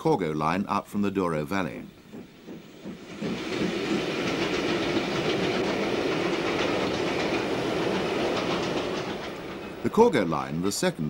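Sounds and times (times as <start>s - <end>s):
rhythmic train clatter: 1.3s - 11.0s
train rumble: 1.3s - 11.0s.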